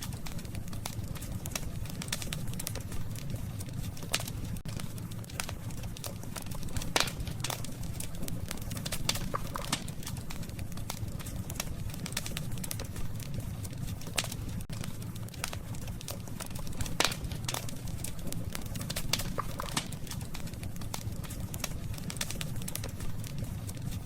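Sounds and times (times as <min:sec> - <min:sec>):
campfire crackling: 0:00.0 - 0:24.0
low fire rumble: 0:00.0 - 0:24.0.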